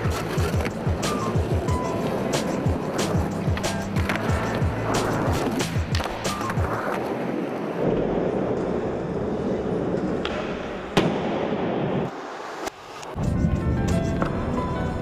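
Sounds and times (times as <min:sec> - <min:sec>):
skateboard clacks: 0:00.0 - 0:13.2
skateboard wheels rolling: 0:00.0 - 0:15.0.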